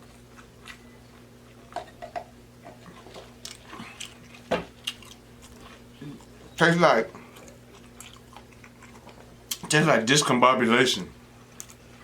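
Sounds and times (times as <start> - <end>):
chewing and lip-smacking: 0.0 - 9.8, 11.4 - 12.0
steady low hum: 0.0 - 12.0.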